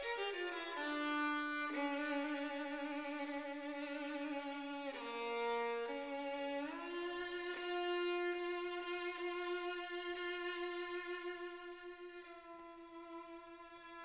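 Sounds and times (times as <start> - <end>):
violin slow melody: 0.0 - 14.0.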